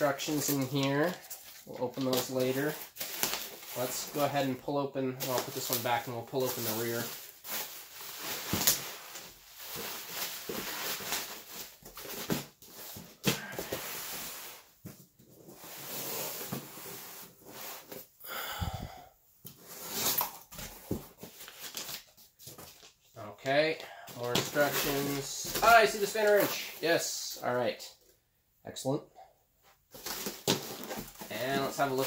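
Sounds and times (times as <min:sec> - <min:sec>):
bubble wrap and paper rustling: 0:00.0 - 0:18.0, 0:19.7 - 0:27.4, 0:29.9 - 0:32.0.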